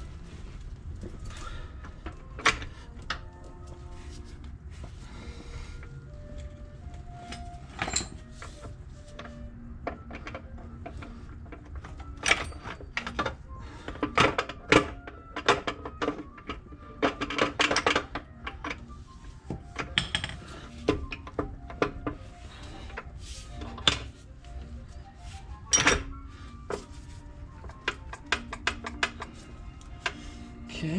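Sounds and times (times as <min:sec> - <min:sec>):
faint music: 0:00.0 - 0:30.9.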